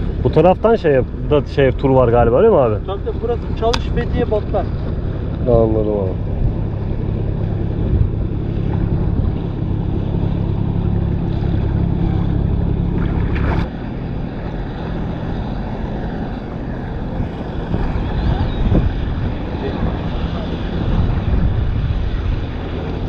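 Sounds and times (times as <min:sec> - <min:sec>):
boat motor droning: 0:00.0 - 0:23.0.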